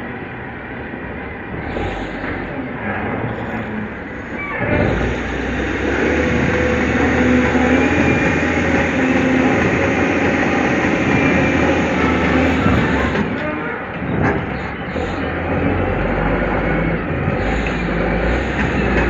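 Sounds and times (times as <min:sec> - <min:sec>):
heavy diesel engine revving: 0:00.0 - 0:19.0.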